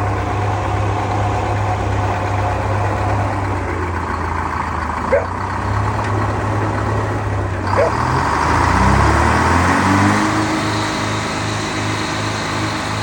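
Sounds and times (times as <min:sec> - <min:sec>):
sawmill engine humming: 0:00.0 - 0:13.0.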